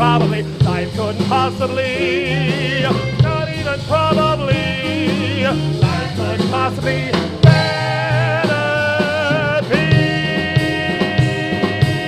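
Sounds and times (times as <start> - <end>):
band accompaniment: 0.0 - 12.0
person singing with vibrato: 0.0 - 12.0.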